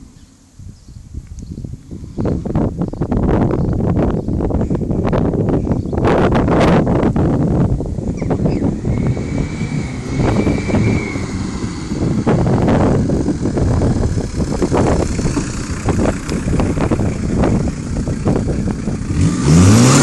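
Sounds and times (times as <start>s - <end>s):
wind buffeting microphone: 0.0s - 20.0s
car engine driving up: 2.4s - 20.0s.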